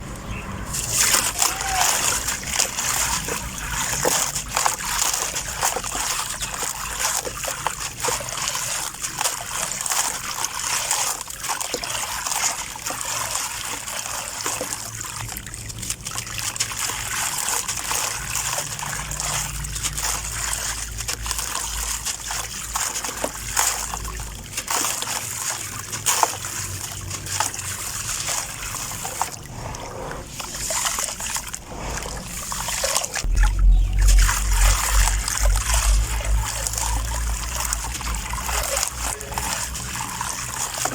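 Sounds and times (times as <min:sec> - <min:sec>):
water splashing and sloshing: 0:00.0 - 0:40.9
small crackles of crumbling sand: 0:00.1 - 0:40.9.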